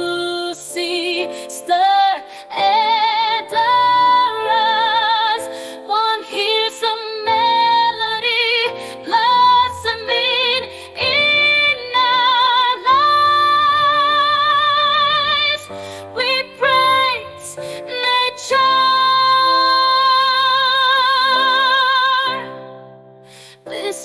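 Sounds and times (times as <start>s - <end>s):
woman singing with vibrato: 0.0s - 22.7s, 23.7s - 24.0s.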